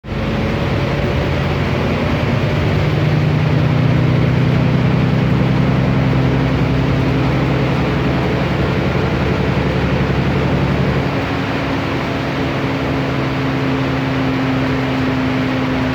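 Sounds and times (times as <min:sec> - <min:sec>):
bus diesel engine droning: 0:00.0 - 0:15.9.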